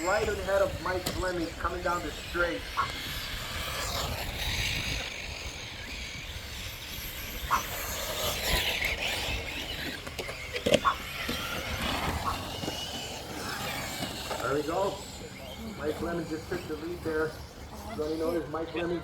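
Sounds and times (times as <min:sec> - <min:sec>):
rc truck motors whining: 0:00.0 - 0:19.0.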